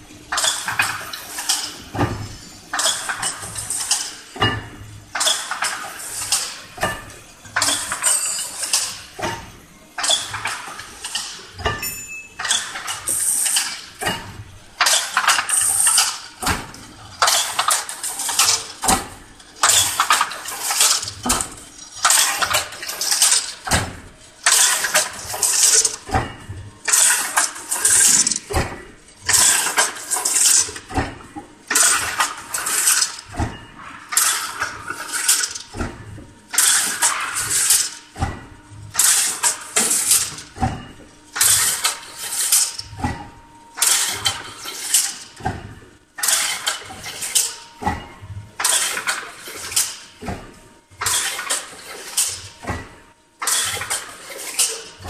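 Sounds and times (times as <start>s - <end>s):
weaving machine metallic clatter: 0.2s - 55.0s.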